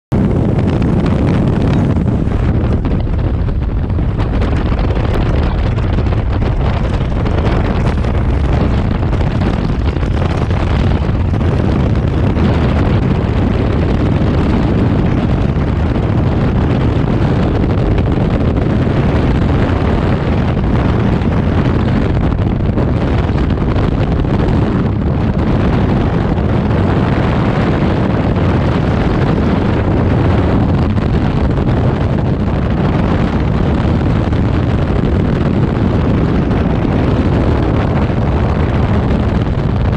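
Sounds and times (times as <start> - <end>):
wind buffeting microphone: 0.1 - 39.9.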